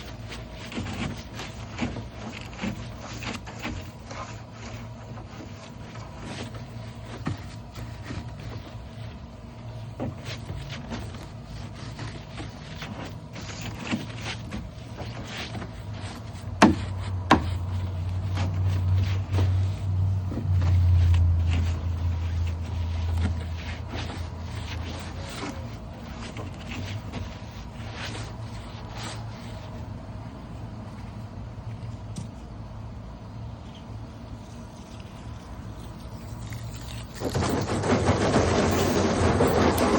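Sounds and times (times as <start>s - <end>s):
brush scrubbing plastic bin: 0.0s - 31.3s, 34.2s - 39.9s
low motor hum: 0.0s - 39.9s.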